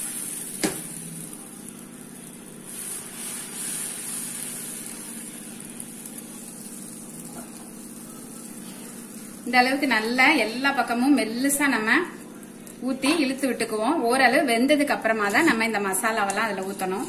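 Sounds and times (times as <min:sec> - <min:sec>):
batter hissing on hot griddle: 0:00.0 - 0:13.7
steady low hum: 0:00.0 - 0:17.0.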